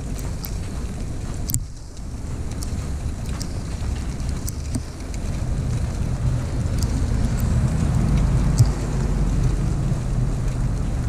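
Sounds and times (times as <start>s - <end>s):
sharp ticks: 0.0s - 11.0s
wind buffeting microphone: 0.0s - 11.0s.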